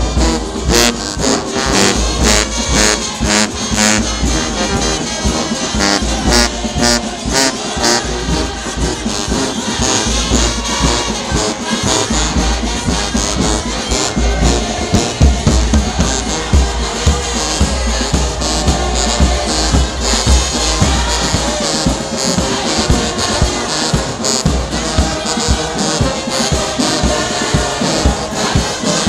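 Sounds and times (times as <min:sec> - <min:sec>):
brass band music: 0:00.0 - 0:29.0.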